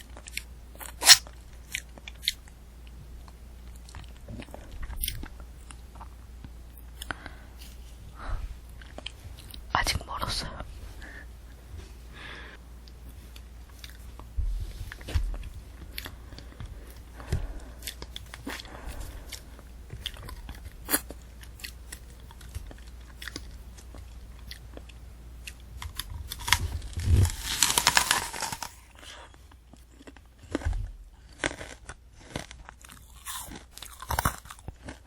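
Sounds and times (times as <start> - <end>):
chewing candy apple crunching: 0.0 - 7.8, 12.8 - 14.2, 14.9 - 35.0.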